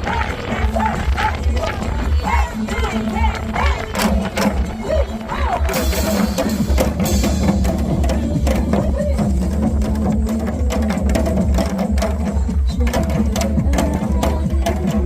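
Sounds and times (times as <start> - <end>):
hourglass drum rhythm: 0.0 - 15.0
wind rumbling on microphone: 0.0 - 15.0.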